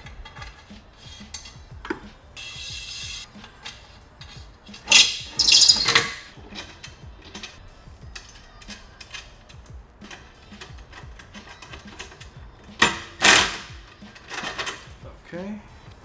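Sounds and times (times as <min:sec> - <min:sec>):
metal brackets clicking and knocking: 0:00.0 - 0:15.0
metal scraping: 0:00.0 - 0:15.0.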